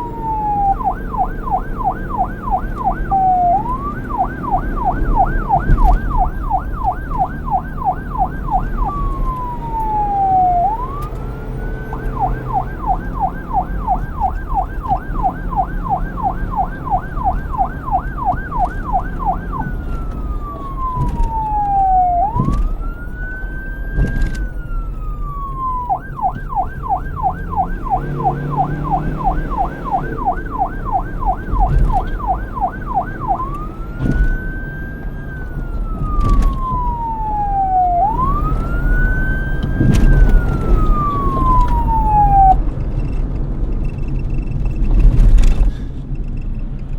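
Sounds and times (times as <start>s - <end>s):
police siren yelping and wailing: 0.0s - 42.8s
low rumble of engine and traffic: 0.0s - 46.9s.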